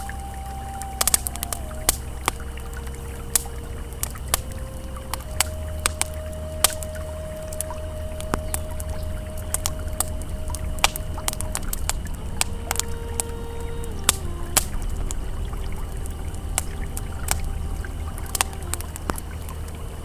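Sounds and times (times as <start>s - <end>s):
campfire crackling: 0.0s - 20.0s
faint ambient tone: 0.0s - 20.0s
river flowing: 0.0s - 20.0s.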